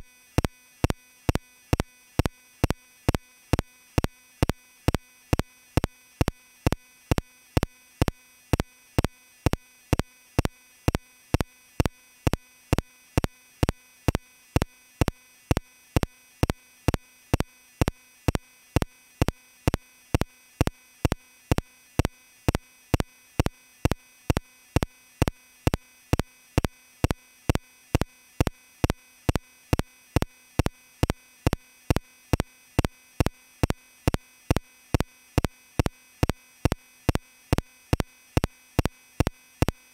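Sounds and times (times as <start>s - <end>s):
electronic ticking: 0.3s - 39.9s.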